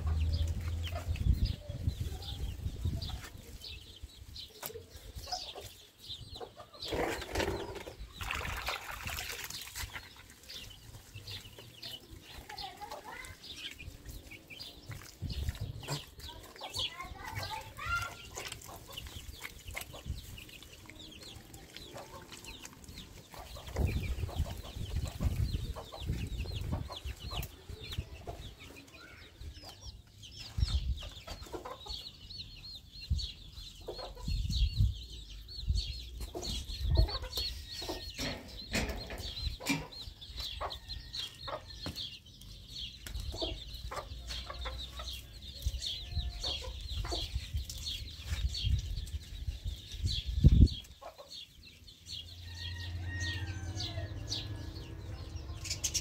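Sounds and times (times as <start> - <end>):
chickens clucking: 0.0 - 8.2, 9.7 - 56.0.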